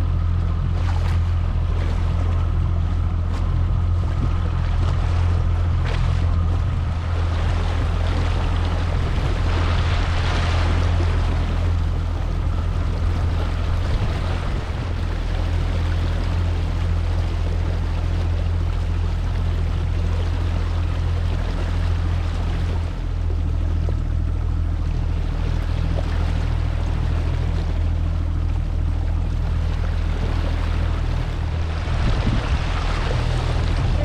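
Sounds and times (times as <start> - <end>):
outboard motor running: 0.0 - 34.0
water rushing past hull: 0.0 - 34.0.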